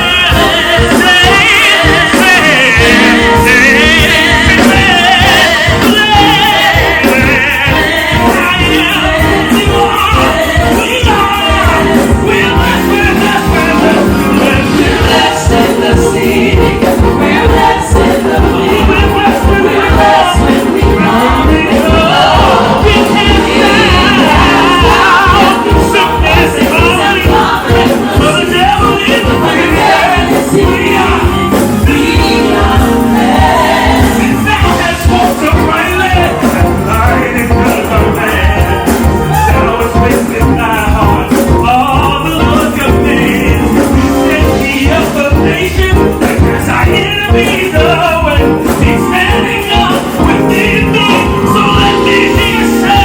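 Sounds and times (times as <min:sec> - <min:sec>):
live gospel music: 0:00.0 - 0:53.0.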